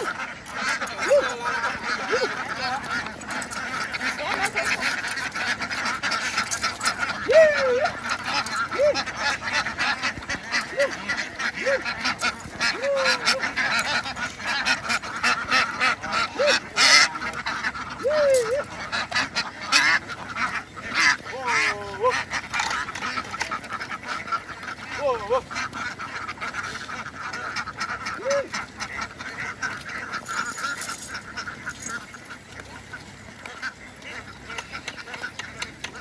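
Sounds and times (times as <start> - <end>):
ducks quacking: 0.0 - 36.0
lower duck calls: 0.0 - 36.0.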